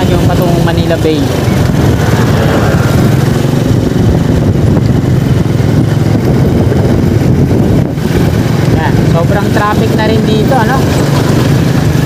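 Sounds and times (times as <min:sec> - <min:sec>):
motorcycle engine running: 0:00.0 - 0:12.0
wind rushing on microphone: 0:00.0 - 0:12.0.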